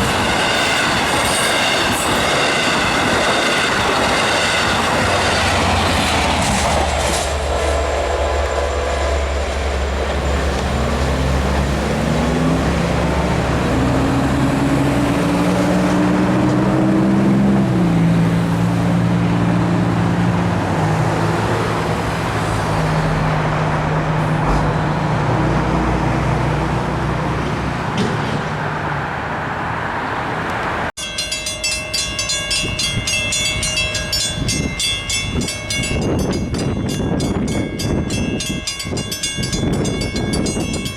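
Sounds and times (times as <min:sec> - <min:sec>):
diesel train engine: 0:00.0 - 0:40.9.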